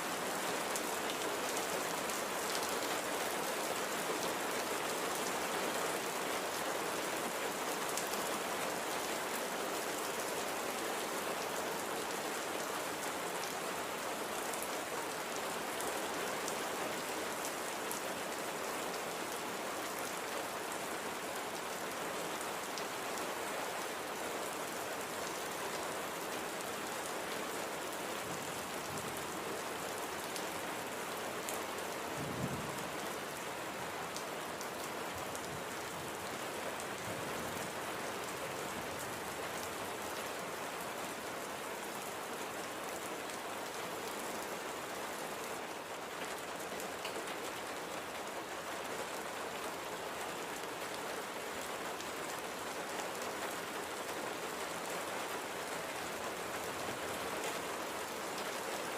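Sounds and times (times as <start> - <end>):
light steady rain: 0.0 - 58.9.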